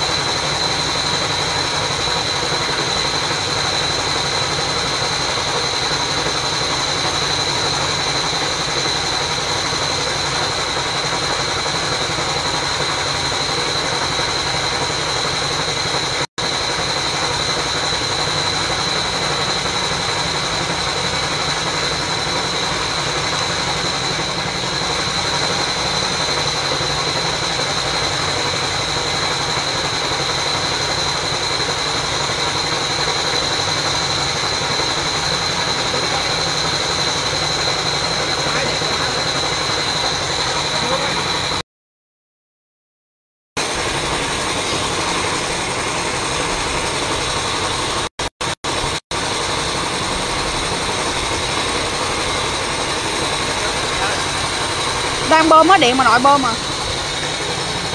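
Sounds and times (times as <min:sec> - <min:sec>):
water pump motor whining: 0:00.0 - 0:41.6, 0:43.6 - 0:57.9.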